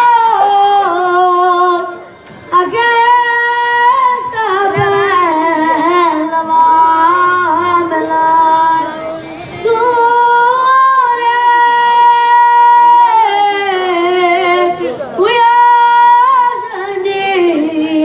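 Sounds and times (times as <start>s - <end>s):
boy singing into microphone: 0.0s - 18.0s.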